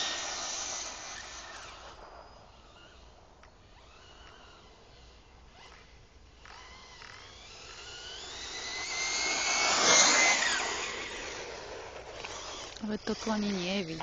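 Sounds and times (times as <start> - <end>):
toy car motor whining past: 0.0 - 14.0.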